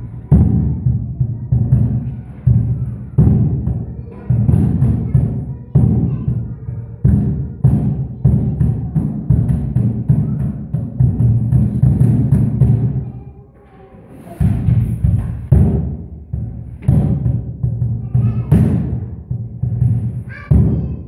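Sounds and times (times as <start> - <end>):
tyre drums thumping: 0.2 - 13.0, 14.4 - 21.0.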